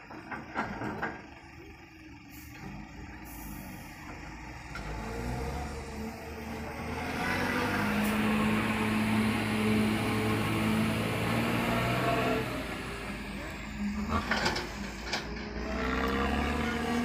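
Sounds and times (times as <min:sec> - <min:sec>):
diesel truck engine: 0:00.0 - 0:17.0.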